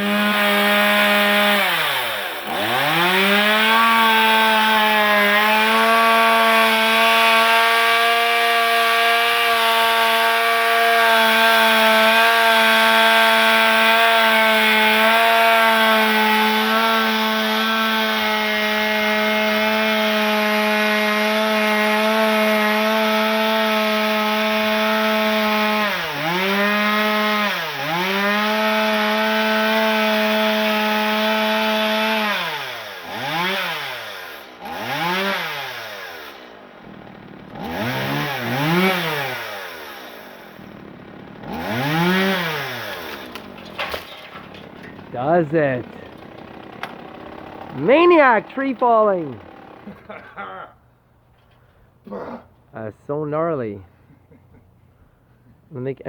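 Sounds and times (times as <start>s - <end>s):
chainsaw cutting wood: 0.0s - 50.5s.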